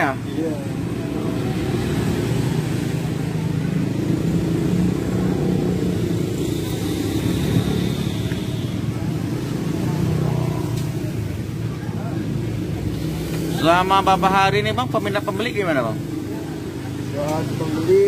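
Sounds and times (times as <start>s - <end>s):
street background noise: 0.0s - 18.0s.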